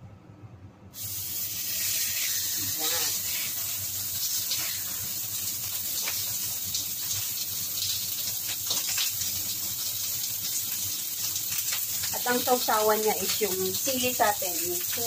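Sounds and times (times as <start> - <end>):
meat sizzling in a wok: 1.0 - 15.0.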